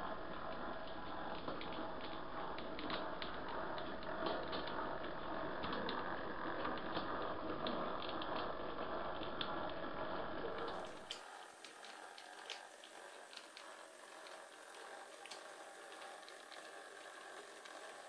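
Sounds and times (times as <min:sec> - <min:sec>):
model train motor humming: 0:00.0 - 0:18.0
wheels clicking on rails: 0:00.0 - 0:18.0.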